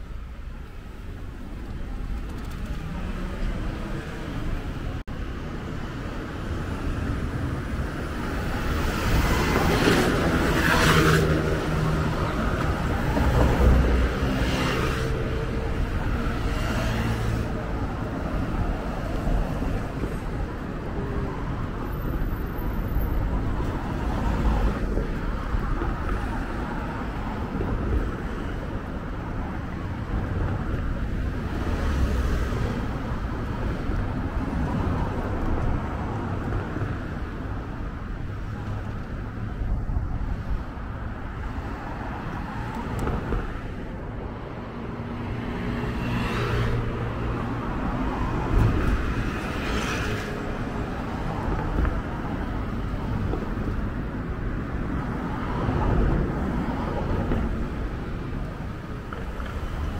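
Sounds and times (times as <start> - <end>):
steady traffic rumble: 0.0 - 59.9
vehicles passing by: 0.0 - 59.9.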